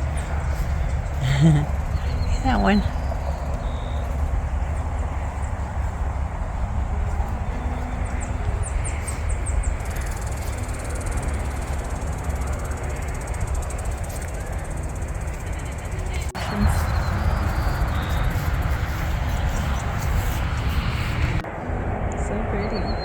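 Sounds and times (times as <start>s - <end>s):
high bird chirps: 0.0s - 21.2s
wind buffeting microphone: 0.0s - 23.0s.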